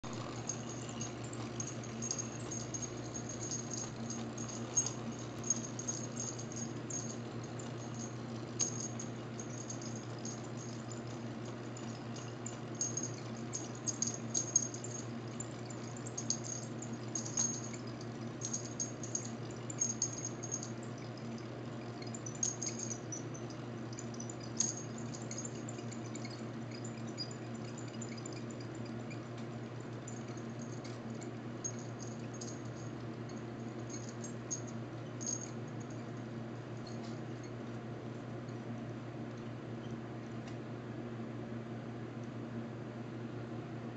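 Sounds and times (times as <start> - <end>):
clockwork mechanism whirring: 0.0 - 36.0
light clicks and rattles: 0.0 - 38.6.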